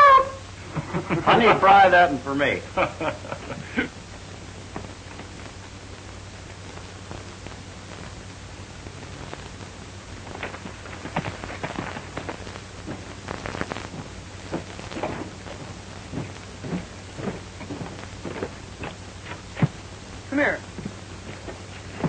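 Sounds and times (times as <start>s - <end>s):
film soundtrack hiss and hum: 0.0s - 22.0s.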